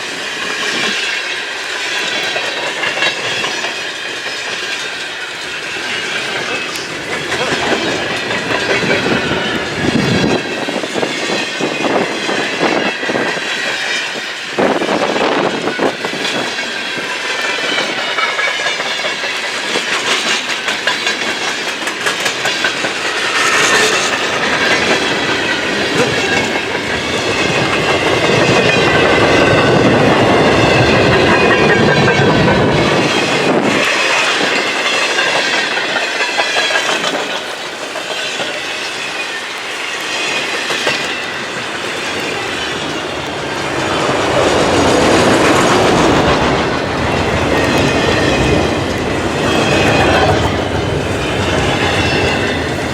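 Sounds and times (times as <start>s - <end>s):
freight train rumbling past: 0.0s - 52.9s
wheels clattering over rail joints: 0.0s - 52.9s.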